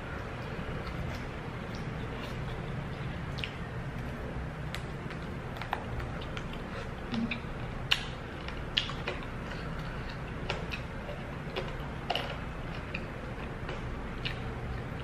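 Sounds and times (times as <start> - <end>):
person chewing and sucking meat: 0.0 - 15.0.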